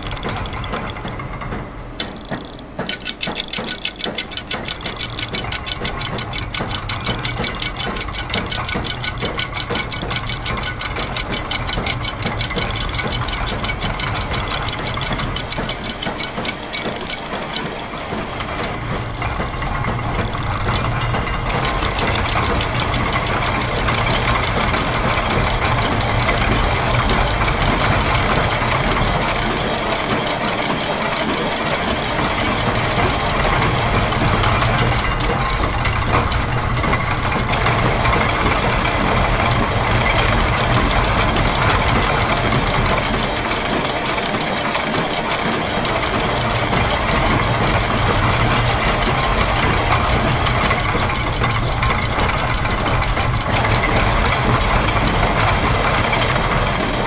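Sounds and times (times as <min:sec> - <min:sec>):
gears and ratchets clicking: 0:00.0 - 0:57.0
low machine hum: 0:00.0 - 0:57.0.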